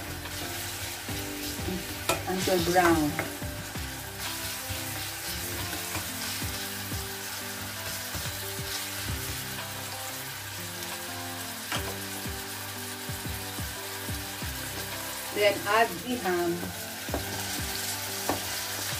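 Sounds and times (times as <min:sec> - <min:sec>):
onion and garlic sizzling in oil: 0:00.0 - 0:18.9.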